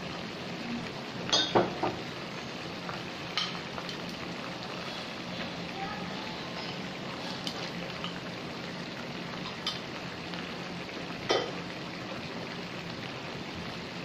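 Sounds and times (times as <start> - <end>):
spice paste sizzling in oil: 0.0 - 14.0.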